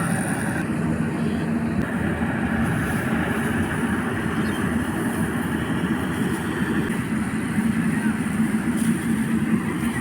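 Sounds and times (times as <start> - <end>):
harvesting machine running: 0.0 - 10.0.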